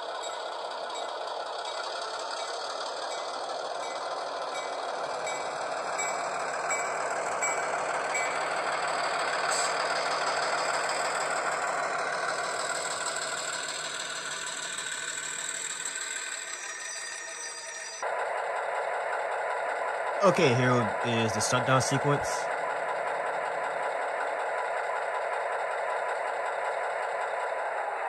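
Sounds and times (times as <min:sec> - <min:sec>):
model train diesel engine sound: 0:00.0 - 0:28.0.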